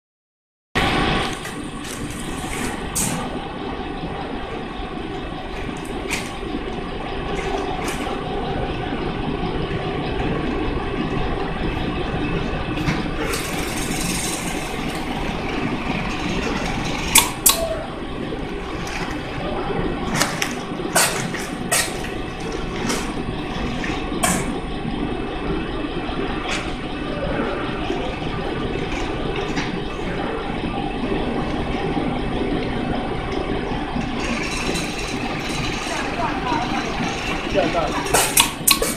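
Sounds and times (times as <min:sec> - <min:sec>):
packing machine droning: 0:00.8 - 0:38.9.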